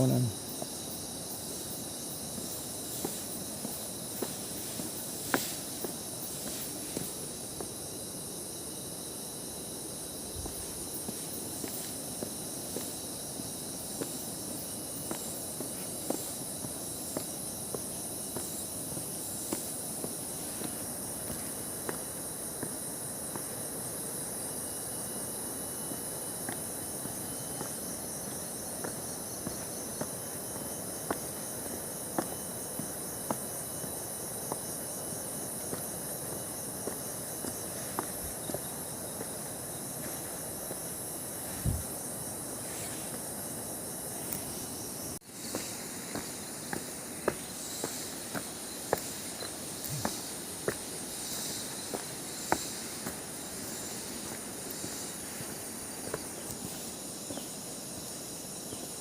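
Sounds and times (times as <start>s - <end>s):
forest insects chorus: 0.0s - 59.0s
footsteps on a trail: 0.3s - 59.0s.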